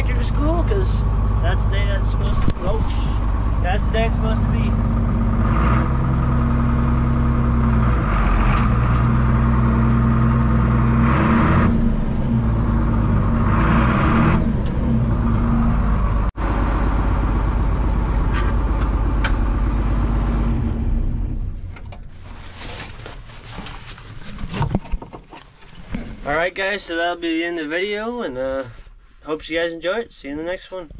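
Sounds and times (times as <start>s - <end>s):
tractor diesel engine running: 0.0s - 28.1s.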